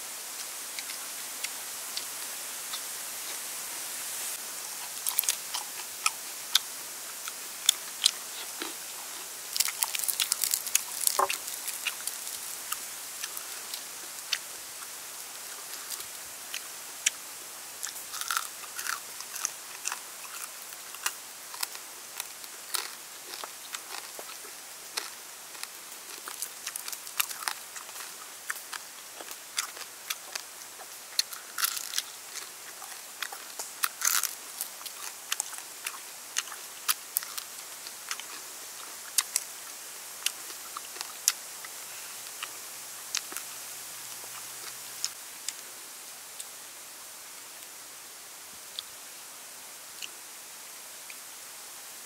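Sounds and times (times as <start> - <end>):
crunching and chewing: 0.4 - 2.1, 4.7 - 45.7.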